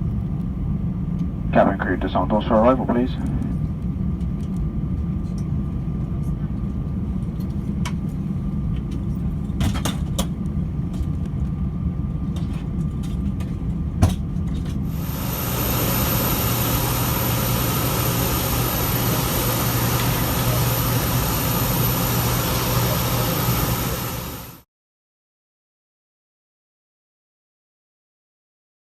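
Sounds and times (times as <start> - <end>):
aircraft low rumble: 0.0 - 24.6
rushing noise with low hum: 0.0 - 24.6.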